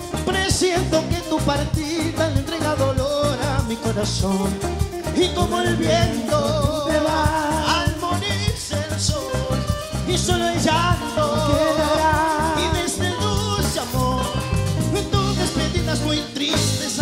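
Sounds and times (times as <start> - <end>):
congas: 0.0 - 17.0
drum kit: 0.0 - 17.0
keyboard: 0.0 - 17.0
man singing into a microphone: 0.0 - 17.0.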